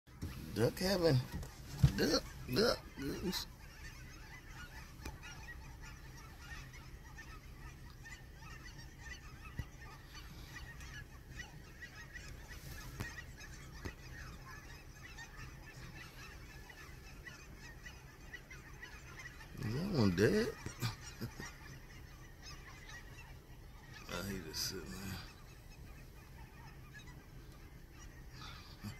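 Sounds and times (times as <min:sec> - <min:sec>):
flock of geese honking: 0:00.1 - 0:28.9.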